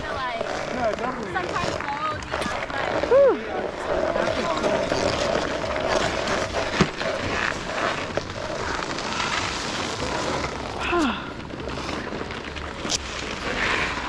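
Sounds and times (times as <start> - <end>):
snowboard scraping over snow: 0.0 - 14.0.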